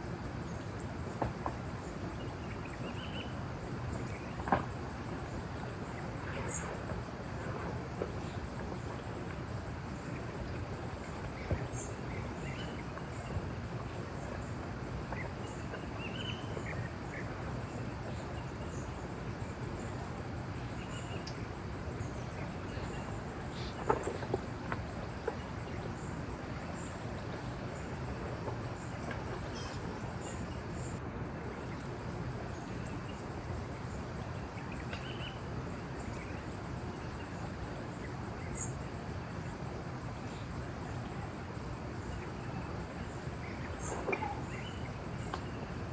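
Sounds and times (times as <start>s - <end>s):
insects buzzing: 0.0s - 45.9s
outdoor background noise: 0.0s - 45.9s
steady background hiss: 0.0s - 45.9s.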